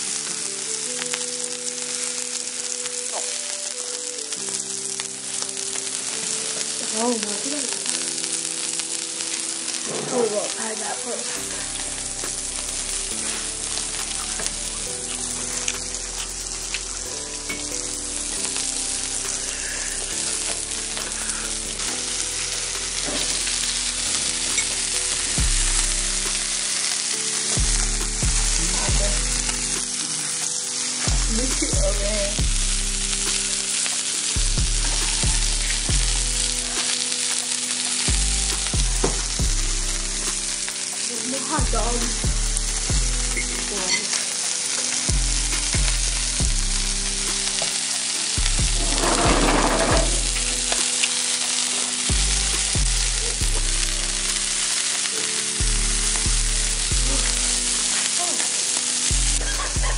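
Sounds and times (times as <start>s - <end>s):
background music: 0.0s - 59.9s
food sizzling in a hot pan: 0.0s - 59.9s.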